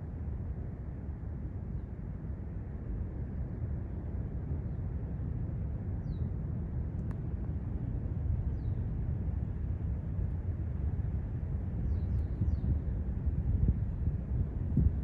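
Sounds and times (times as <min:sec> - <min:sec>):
low rumbling roar of lava fountain: 0:00.0 - 0:15.0.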